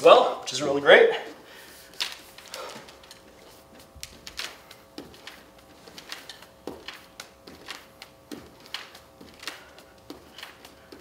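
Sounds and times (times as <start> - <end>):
hands tapping hardwood floor: 1.9 - 11.0.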